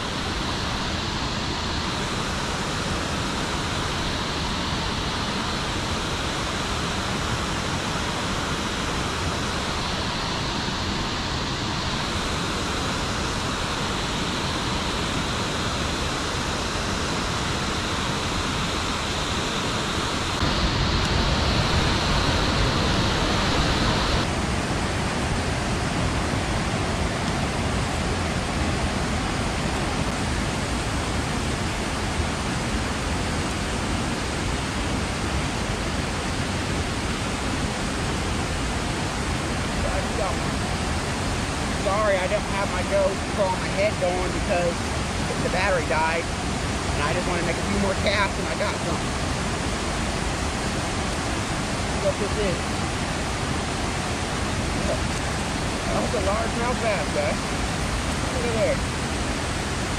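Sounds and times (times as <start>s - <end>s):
water rushing from dam: 0.0s - 59.9s.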